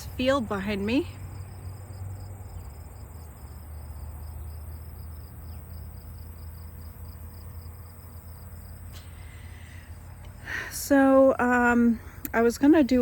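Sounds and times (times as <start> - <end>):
insects chirping: 0.0 - 13.0
low steady rumble: 0.0 - 13.0.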